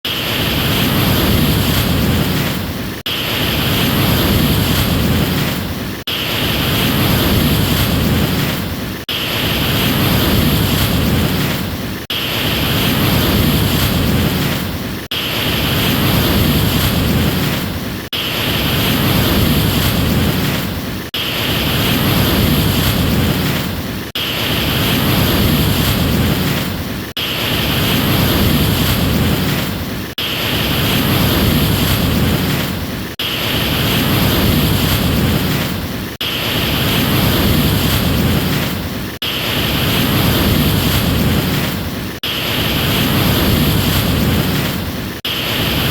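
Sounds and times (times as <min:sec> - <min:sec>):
ocean surf rushing: 0:00.0 - 0:45.9.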